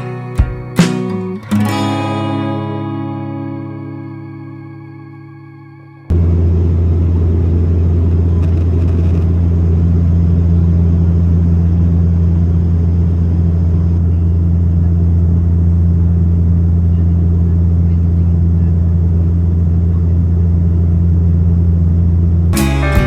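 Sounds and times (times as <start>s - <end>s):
airliner cabin engine drone: 3.7s - 23.0s.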